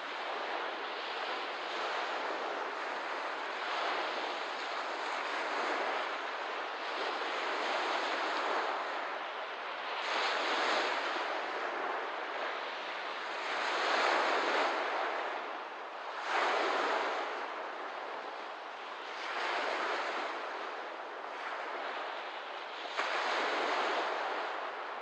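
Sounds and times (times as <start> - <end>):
small waves washing on shore: 0.0 - 25.0.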